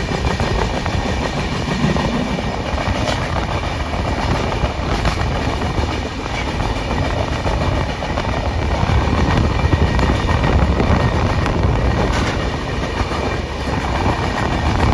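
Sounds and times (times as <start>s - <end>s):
train wheels rumbling on rails: 0.0s - 14.9s.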